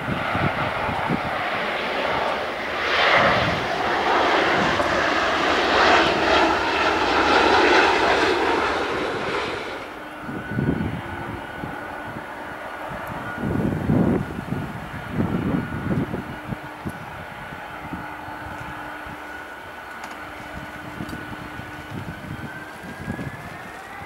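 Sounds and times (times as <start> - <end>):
jet engines at takeoff: 0.0 - 24.0.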